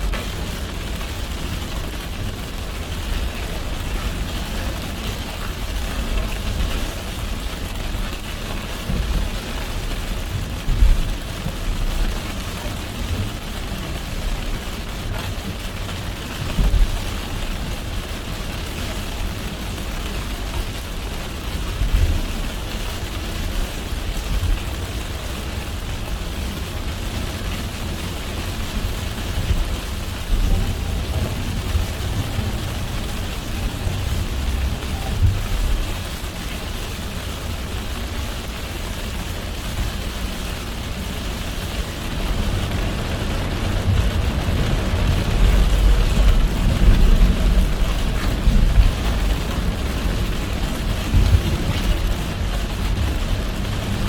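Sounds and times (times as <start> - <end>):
rain hissing on a car: 0.0 - 54.0
tyres rumbling on wet road: 0.0 - 54.0.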